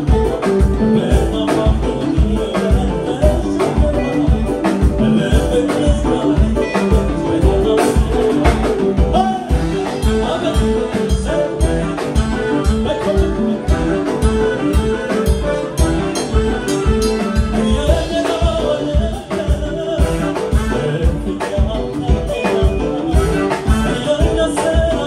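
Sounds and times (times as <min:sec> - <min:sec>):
man singing: 0:00.0 - 0:25.0
pop song with steady beat: 0:00.0 - 0:25.0.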